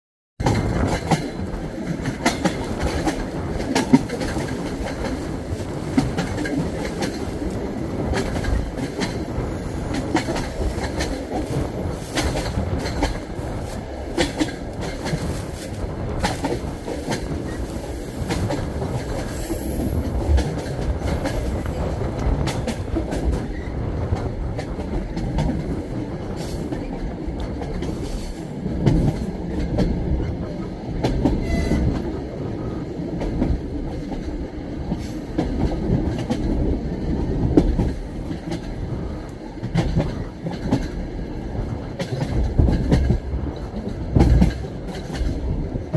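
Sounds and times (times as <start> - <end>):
train wheels clattering: 0.4 - 32.2, 33.2 - 45.9.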